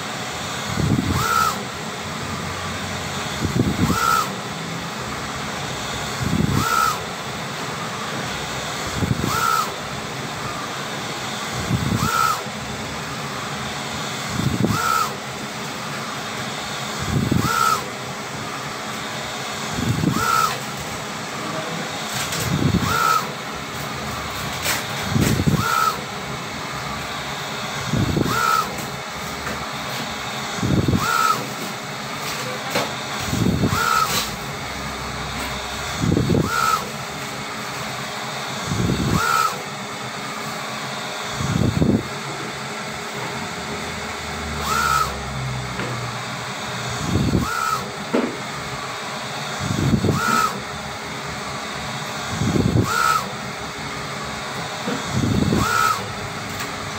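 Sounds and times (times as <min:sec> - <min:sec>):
print-head carriage whirring: 0:00.0 - 0:56.9
short motor whine: 0:00.0 - 0:56.9
steady machine hum: 0:00.0 - 0:56.9.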